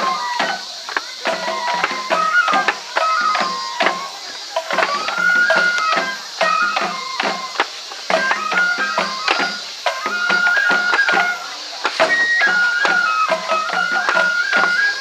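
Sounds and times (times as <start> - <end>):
bamboo flute melody: 0.0 - 15.0
quick drum strokes: 0.0 - 15.0.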